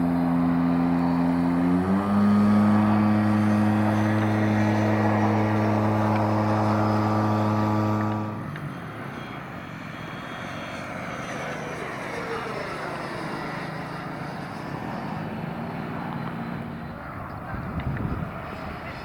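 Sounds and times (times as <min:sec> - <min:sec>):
electric ducted fans whining: 0:00.0 - 0:19.0.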